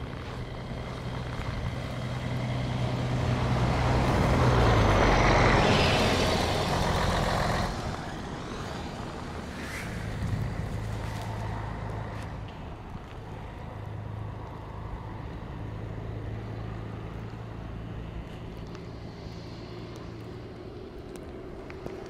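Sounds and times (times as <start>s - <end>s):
vehicle driving past: 0.0s - 22.0s.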